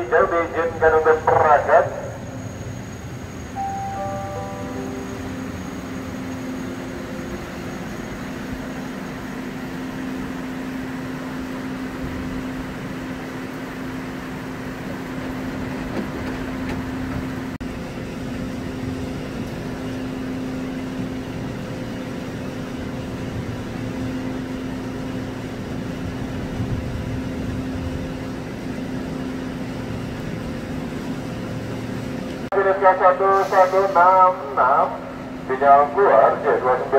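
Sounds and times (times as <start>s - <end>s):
electric train humming: 0.0s - 36.9s.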